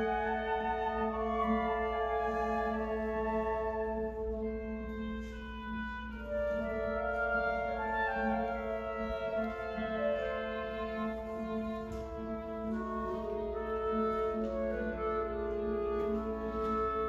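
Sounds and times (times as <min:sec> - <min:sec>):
orchestra playing held notes: 0:00.0 - 0:17.0.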